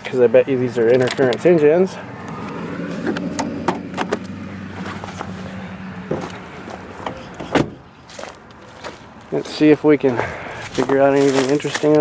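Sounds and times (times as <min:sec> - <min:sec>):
vehicle mechanical hum: 0:00.0 - 0:12.0.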